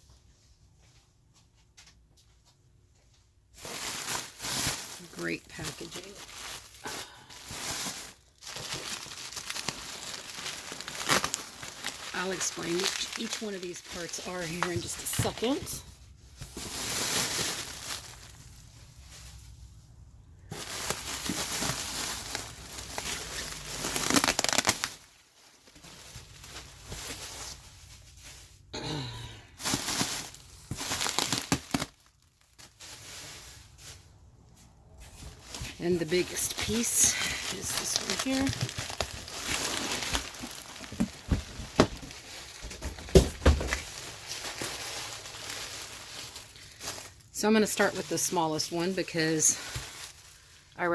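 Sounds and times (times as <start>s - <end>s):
packing material crinkling: 3.5s - 19.8s, 20.4s - 29.0s, 29.6s - 34.2s, 34.8s - 50.9s
wrapping rustling: 3.5s - 28.7s, 29.6s - 50.9s.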